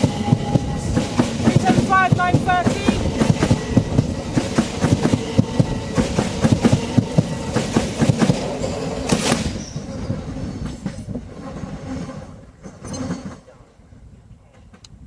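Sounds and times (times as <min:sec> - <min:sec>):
train wheels clicking over rail joints: 0:00.0 - 0:13.6
train rumble: 0:00.0 - 0:15.0.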